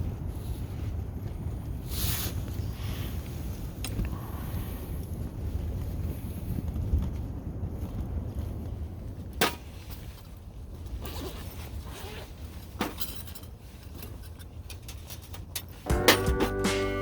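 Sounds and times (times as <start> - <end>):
wind rumble on microphone: 0.0 - 15.9.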